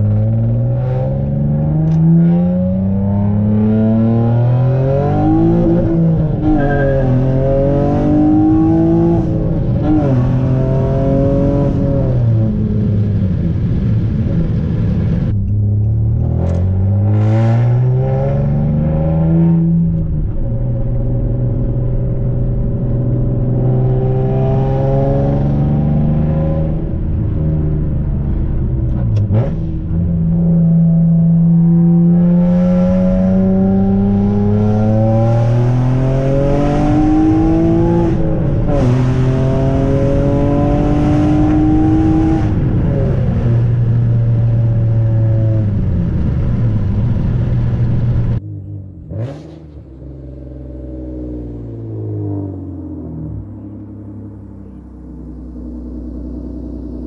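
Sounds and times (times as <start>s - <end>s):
car engine shifting gears: 0.0s - 57.0s.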